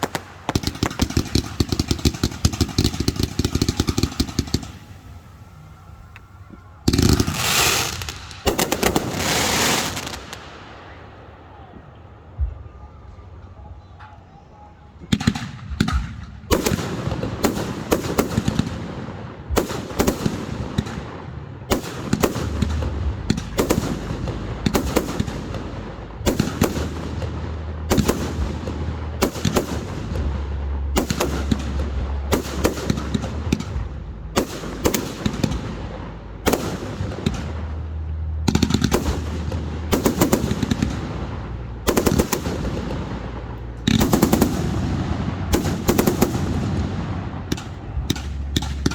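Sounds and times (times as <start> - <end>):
fireworks crackling: 0.0 - 13.0, 15.0 - 48.9
low rumble echoing: 0.0 - 48.9.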